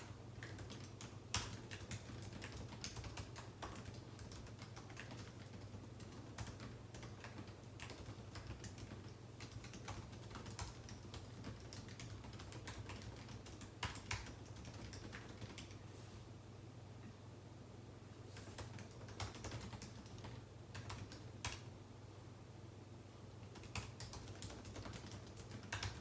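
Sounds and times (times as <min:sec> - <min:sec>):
keyboard typing clicks: 0:00.0 - 0:15.8, 0:18.4 - 0:21.7, 0:23.5 - 0:26.0
faint low hum: 0:00.0 - 0:26.0.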